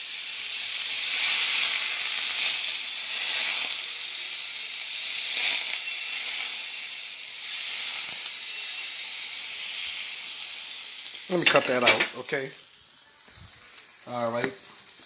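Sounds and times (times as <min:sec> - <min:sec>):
butter sizzling in frying pan: 0:00.0 - 0:15.0.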